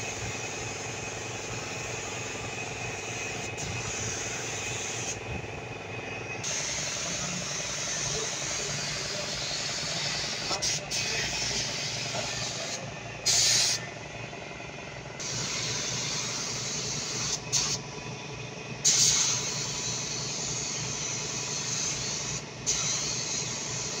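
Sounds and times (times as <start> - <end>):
paint spray gun hissing: 0.5 - 5.2, 6.4 - 13.8, 15.2 - 17.8, 18.9 - 24.0.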